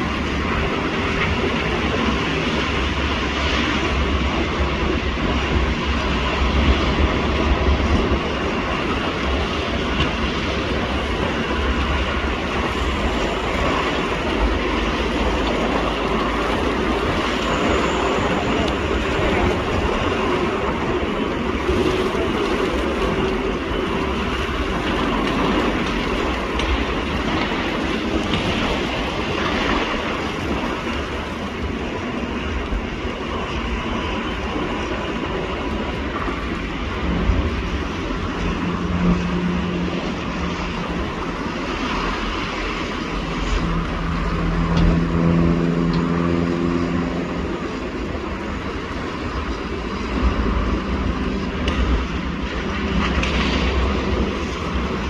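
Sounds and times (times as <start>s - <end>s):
engine hum: 0.0s - 55.0s
wheels rumbling on rail: 0.0s - 55.0s.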